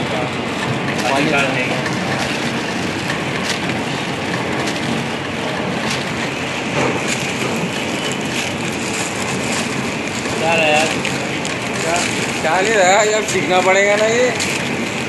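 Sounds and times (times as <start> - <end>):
packing machine clattering: 0.0 - 15.0.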